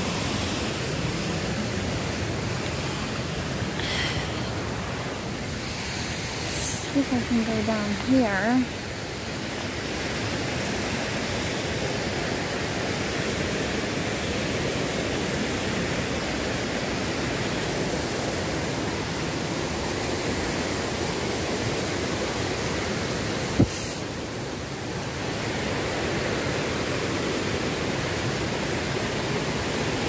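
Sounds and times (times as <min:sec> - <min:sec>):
river rapids rushing: 0:00.0 - 0:30.0.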